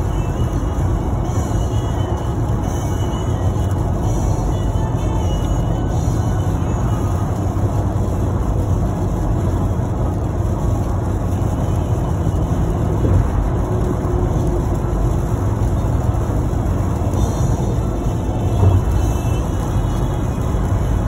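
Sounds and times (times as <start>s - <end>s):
car road rumble on wet road: 0.0s - 21.0s.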